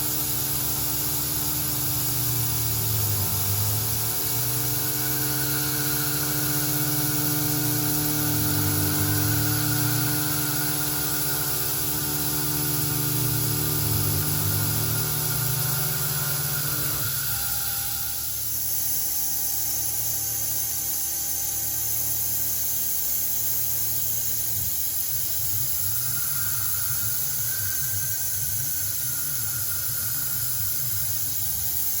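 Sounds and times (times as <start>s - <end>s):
low wavering hum: 0.0s - 22.6s, 23.4s - 32.0s
cnc mill hissing: 0.0s - 32.0s
thin steady tone: 0.0s - 32.0s.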